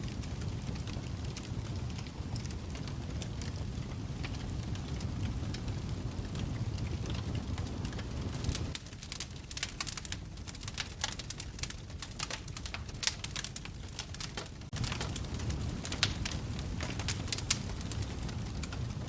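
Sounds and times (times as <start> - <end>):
flames rumbling: 0.0 - 19.0
wood fire pops and snaps: 0.0 - 19.0.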